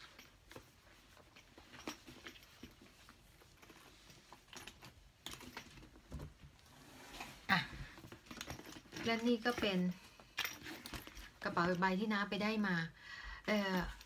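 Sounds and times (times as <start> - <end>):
handbag clicks and rustling: 0.0 - 6.6, 7.2 - 12.1.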